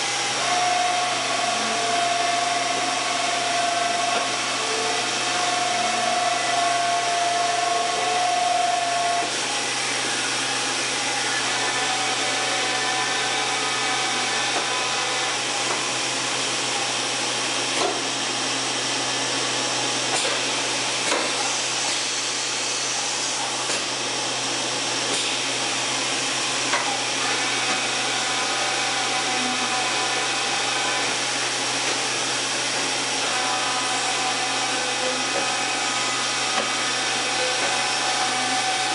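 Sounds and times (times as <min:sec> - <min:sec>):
machining center whirring hiss: 0:00.0 - 0:38.9.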